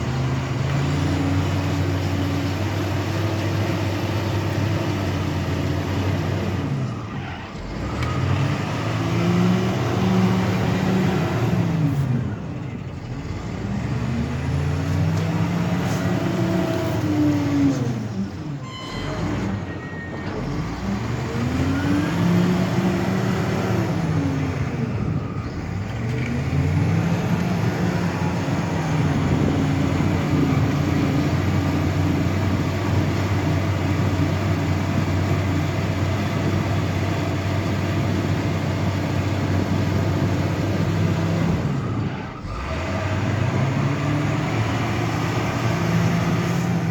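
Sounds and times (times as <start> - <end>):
heavy vehicle engine revving: 0.0 - 46.9.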